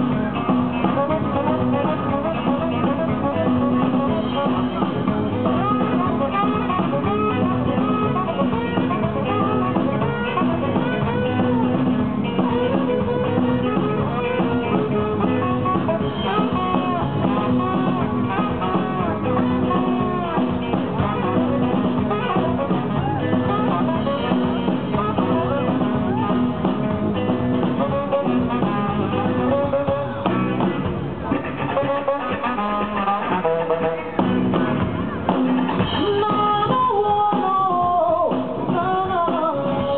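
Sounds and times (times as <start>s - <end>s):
live band playing blues-rock: 0.0s - 39.9s
saxophone: 0.0s - 39.9s.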